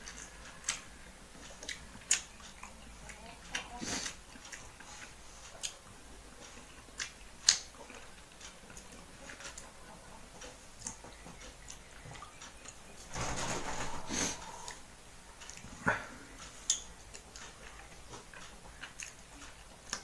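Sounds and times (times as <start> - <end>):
person chewing: 0.0 - 12.8, 15.4 - 20.0.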